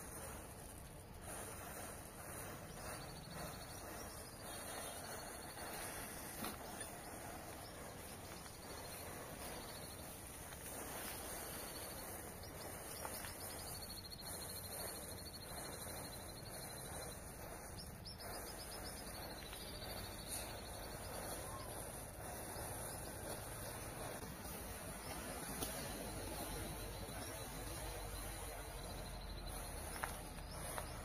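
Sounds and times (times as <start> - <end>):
faint crackles: 0.0 - 31.0
high wavering chirp: 0.0 - 31.0
matches burning with hiss: 0.0 - 31.0.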